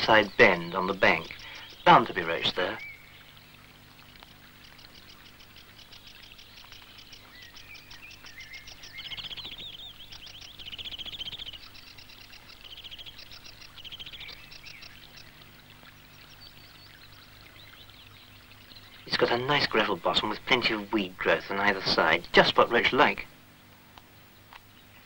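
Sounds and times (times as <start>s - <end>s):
faint low hum: 0.0s - 25.0s
small birds singing: 0.0s - 25.0s.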